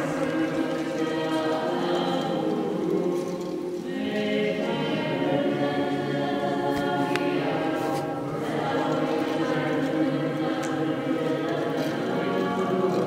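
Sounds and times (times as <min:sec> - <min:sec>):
choir chanting unaccompanied: 0:00.0 - 0:13.0.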